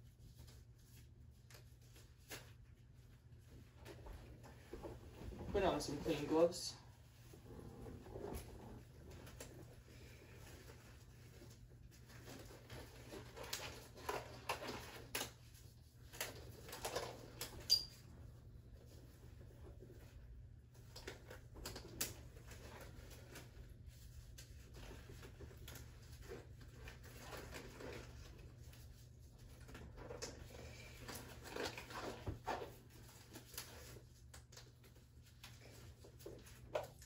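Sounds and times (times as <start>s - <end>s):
rubber gloves rustling and snapping: 0.1s - 6.3s, 7.0s - 17.7s, 18.5s - 37.0s.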